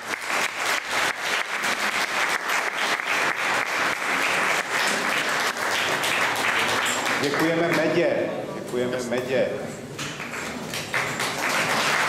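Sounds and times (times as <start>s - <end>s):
audience applauding: 0.0s - 8.0s, 10.0s - 12.0s.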